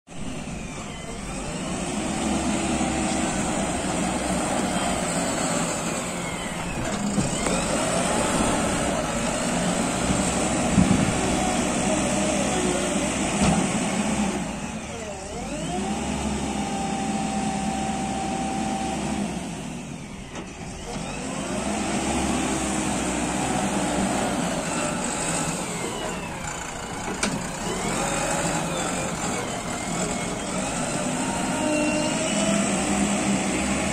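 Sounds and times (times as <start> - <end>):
diesel engine revving under load: 0.1 - 33.9.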